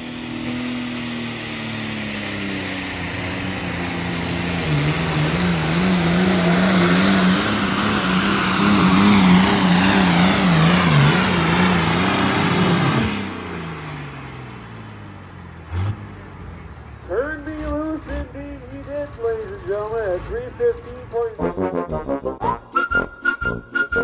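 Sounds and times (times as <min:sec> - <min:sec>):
tractor diesel engine at full throttle: 0:00.0 - 0:21.6.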